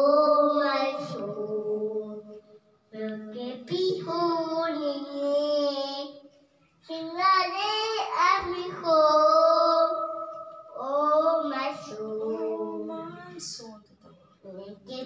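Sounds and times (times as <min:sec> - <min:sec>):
child singing into a microphone: 0:00.0 - 0:13.6, 0:14.4 - 0:15.0.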